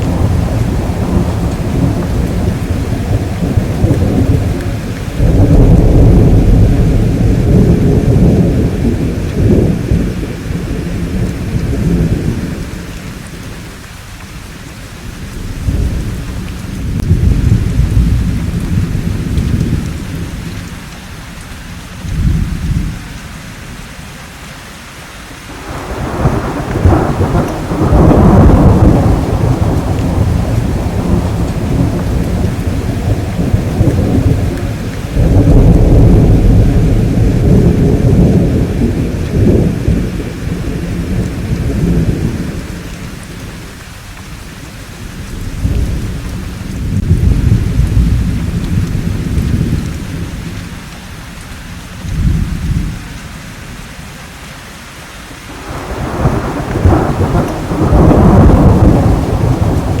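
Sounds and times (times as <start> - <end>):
rolling thunder: 0.0 - 13.7, 15.0 - 20.8, 22.1 - 23.0, 25.5 - 51.2, 52.0 - 53.1, 55.5 - 60.0
steady rain: 0.0 - 60.0.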